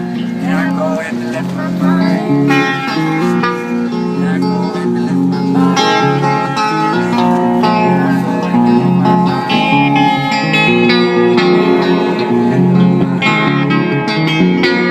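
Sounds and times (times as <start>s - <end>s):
instrumental guitar music: 0.0s - 14.9s.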